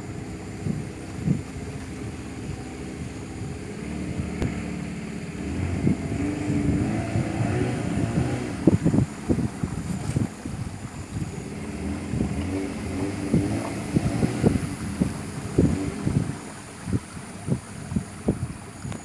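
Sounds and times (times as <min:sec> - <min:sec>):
outboard motor running: 0:00.0 - 0:19.0
wind on microphone: 0:00.0 - 0:19.0.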